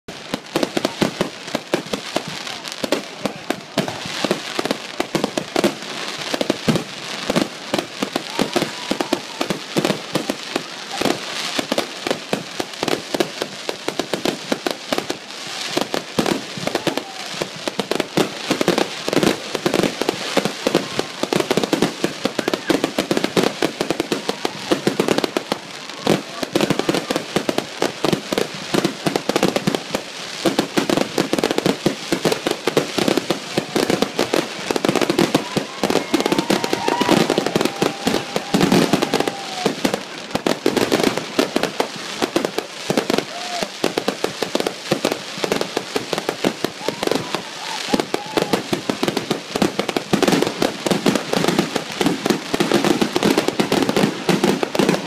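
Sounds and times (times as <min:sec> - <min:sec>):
fireworks bangs and crackles: 0:00.1 - 0:55.0.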